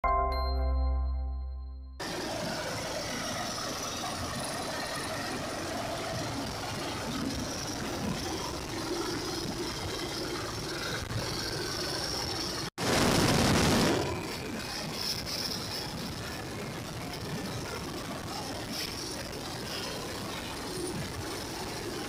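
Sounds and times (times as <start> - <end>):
helicopter hovering: 2.0 - 22.0.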